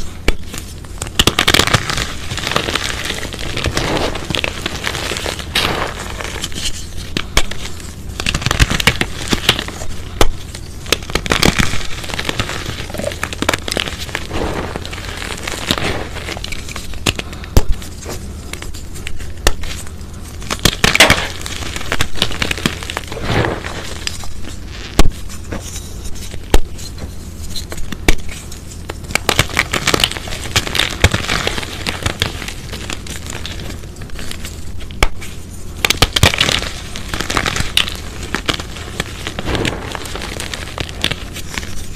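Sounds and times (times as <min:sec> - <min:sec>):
chalk crunching and crumbling: 0:00.0 - 0:41.9.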